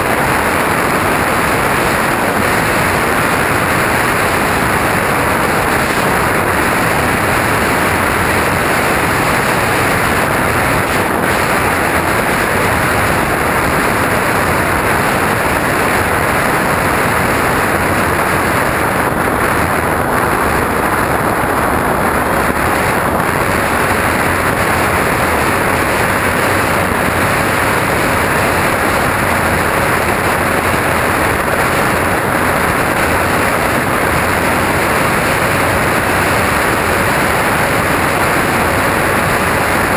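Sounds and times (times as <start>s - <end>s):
airflow rushing on microphone: 0.0s - 39.9s
faint steady whine: 0.0s - 39.9s
plane motor and propeller: 0.0s - 39.9s.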